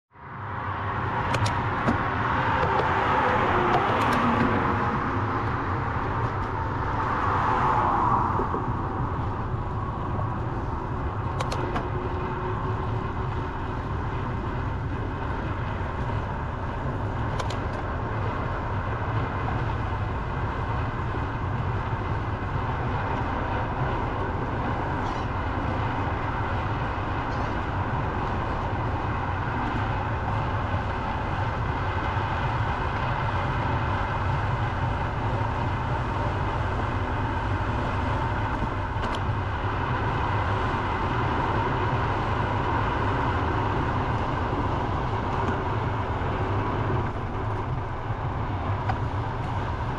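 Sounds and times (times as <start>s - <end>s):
road traffic: 0.1s - 49.9s
vehicles sweeping past: 0.2s - 49.9s.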